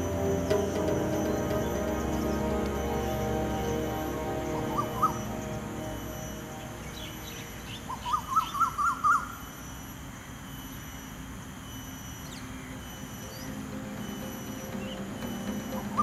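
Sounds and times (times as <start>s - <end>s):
bird chirping: 0.0s - 16.0s
faint high bird calls: 0.0s - 16.0s.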